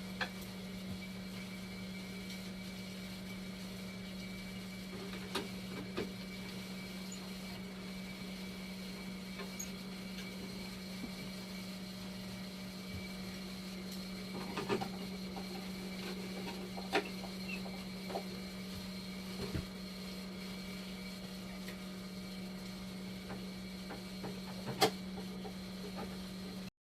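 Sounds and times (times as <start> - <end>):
machine humming: 0.0 - 26.7.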